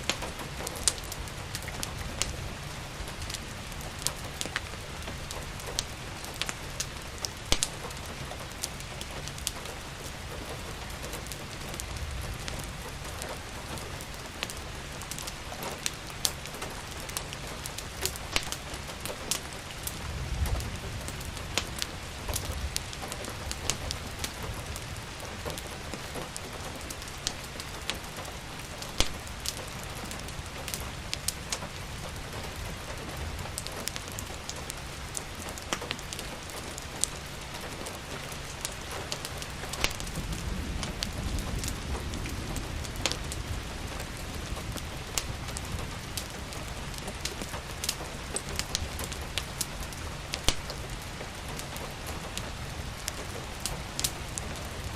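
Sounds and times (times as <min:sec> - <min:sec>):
steady rain: 0:00.0 - 0:54.9
wood fire crackling: 0:00.0 - 0:54.9.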